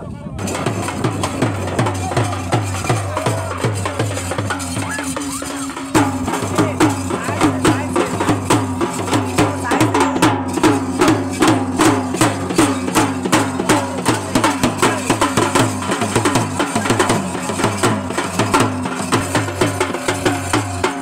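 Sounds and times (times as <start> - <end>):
drum beaten with sticks: 0.4 - 21.0.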